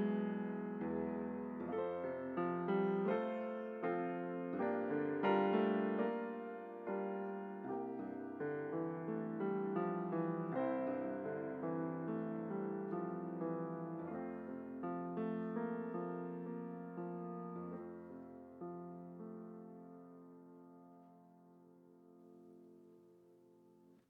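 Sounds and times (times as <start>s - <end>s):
slow gentle piano piece: 0.0s - 24.0s.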